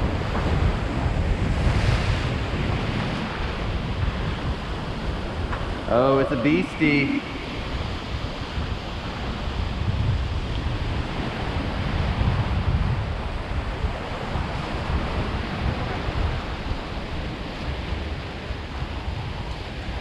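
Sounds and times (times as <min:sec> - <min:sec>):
waves washing: 0:00.0 - 0:20.0
wind buffeting microphone: 0:00.0 - 0:20.0.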